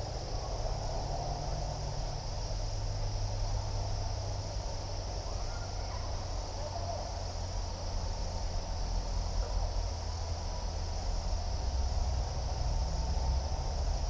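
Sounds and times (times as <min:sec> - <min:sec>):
crickets and insects trilling: 0:00.0 - 0:14.0
low steady rumble: 0:00.0 - 0:14.0.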